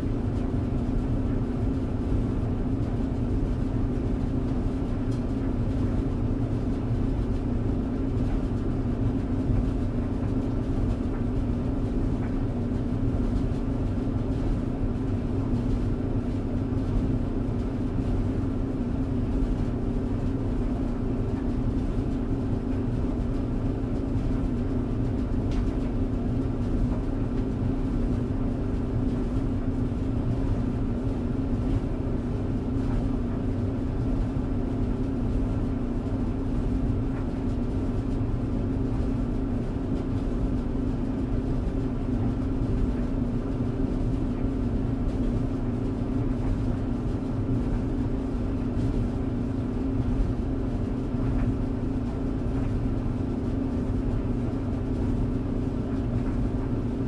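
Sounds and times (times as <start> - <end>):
tumble dryer running: 0.0 - 57.0.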